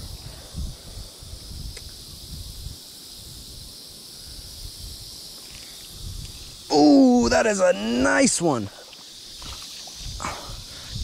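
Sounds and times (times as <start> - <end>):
high-pitched insect chorus: 0.0 - 11.0
wind gusting on microphone: 0.0 - 11.0.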